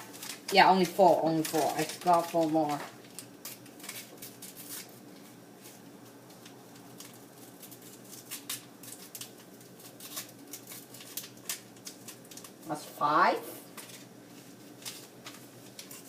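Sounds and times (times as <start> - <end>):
plastic packets crinkling: 0.0 - 5.8, 6.4 - 12.6, 13.7 - 16.0.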